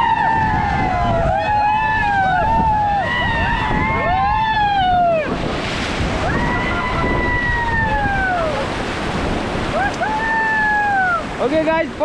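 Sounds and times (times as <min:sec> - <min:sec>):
people yelling: 0:00.0 - 0:05.4, 0:06.1 - 0:08.8, 0:09.7 - 0:11.4
whitewater rushing and splashing: 0:00.0 - 0:12.0.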